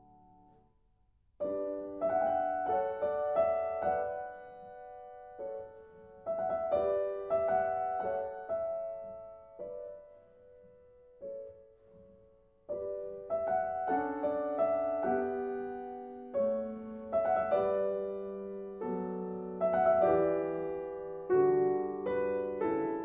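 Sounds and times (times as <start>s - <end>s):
piano chords: 0.0s - 0.7s, 1.4s - 23.0s.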